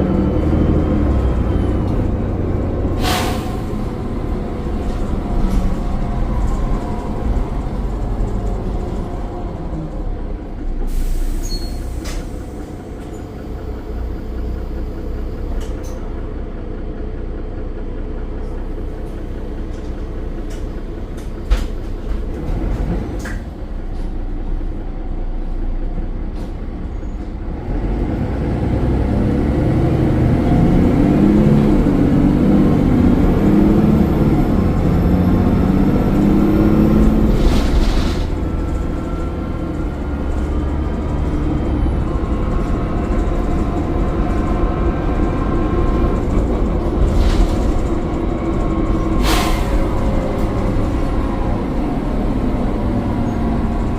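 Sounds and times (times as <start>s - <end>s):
diesel bus engine pulling away: 0.0s - 53.9s.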